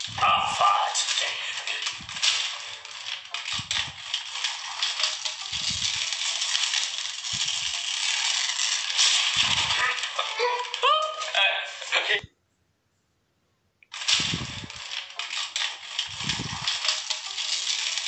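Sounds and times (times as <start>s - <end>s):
baking paper tearing: 0.0s - 12.1s, 13.9s - 18.0s.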